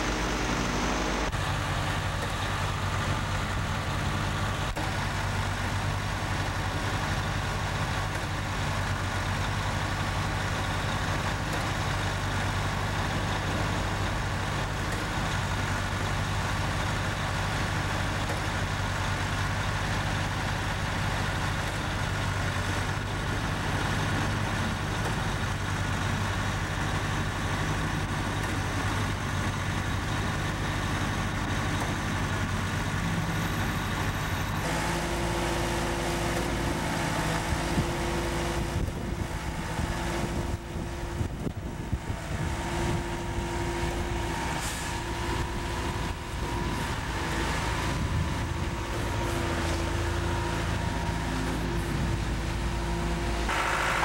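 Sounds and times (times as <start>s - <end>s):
concrete pump engine droning: 0.0s - 54.0s.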